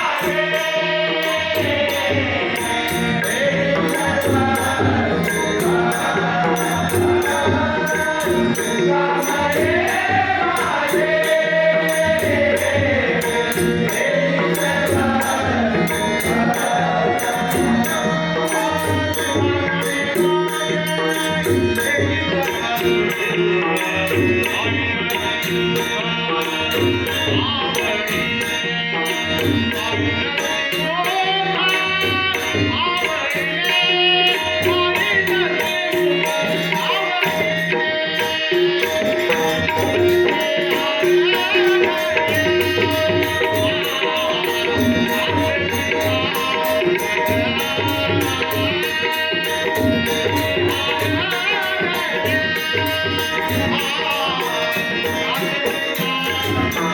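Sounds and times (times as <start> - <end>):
hand drums: 0.0 - 56.9
high jingling beat: 0.0 - 56.9
man singing devotional song: 0.0 - 56.9.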